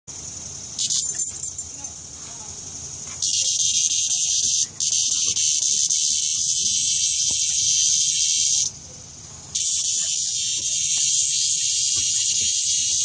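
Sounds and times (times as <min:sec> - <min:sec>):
cicada buzzing loudly: 0:00.1 - 0:13.0.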